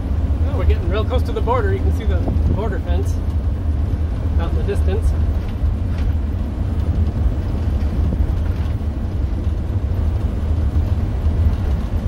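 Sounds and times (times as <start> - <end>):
motorhome engine and road noise: 0.0 - 12.0.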